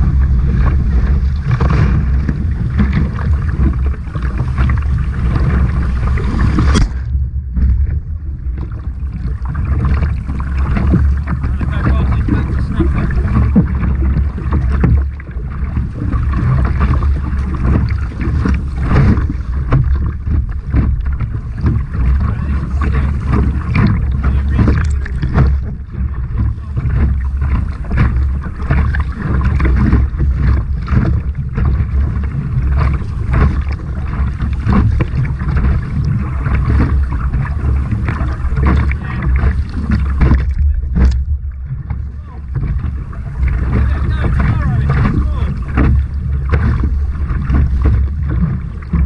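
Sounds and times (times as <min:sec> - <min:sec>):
paddle splashes: 0:00.0 - 0:49.0
water splashing around kayak: 0:00.0 - 0:49.0
wind buffeting microphone: 0:00.0 - 0:49.0.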